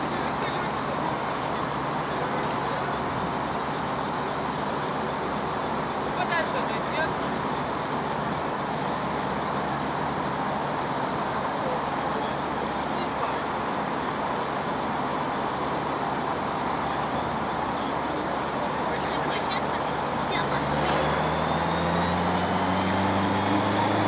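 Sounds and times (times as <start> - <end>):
helicopter idling: 0.0 - 24.0.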